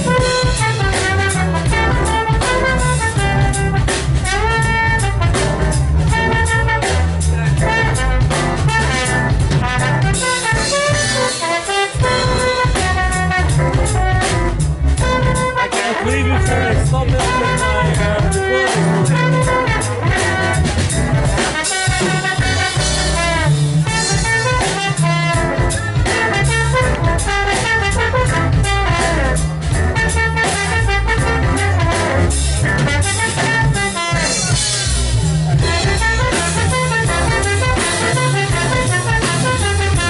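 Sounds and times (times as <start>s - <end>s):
jazz band playing: 0.0s - 40.0s
trombone: 0.0s - 40.0s.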